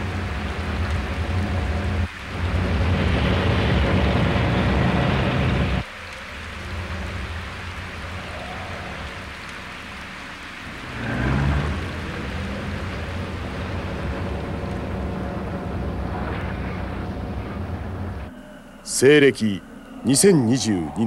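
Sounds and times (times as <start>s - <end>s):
low rumble: 0.0s - 18.8s
steady rain: 0.0s - 21.0s.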